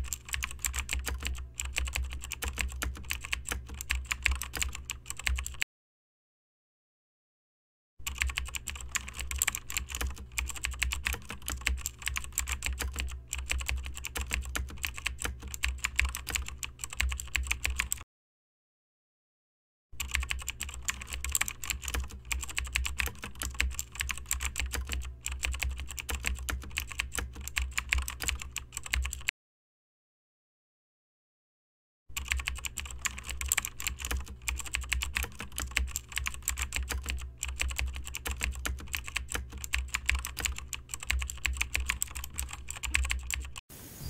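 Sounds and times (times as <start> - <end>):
rapid keyboard typing: 0.0 - 5.6, 8.0 - 18.0, 20.0 - 29.3, 32.2 - 43.6.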